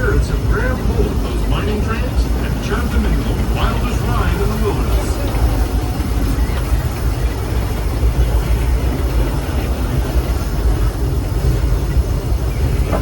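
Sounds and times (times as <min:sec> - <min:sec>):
steam train rolling on track: 0:00.0 - 0:13.0.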